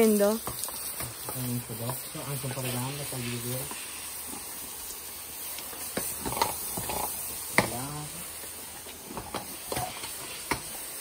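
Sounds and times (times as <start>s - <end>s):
hose water spraying: 0.0s - 11.0s.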